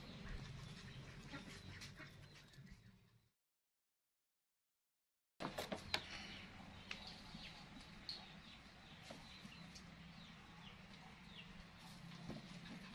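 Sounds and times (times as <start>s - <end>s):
birds chirping: 0.0s - 3.3s, 5.5s - 12.9s.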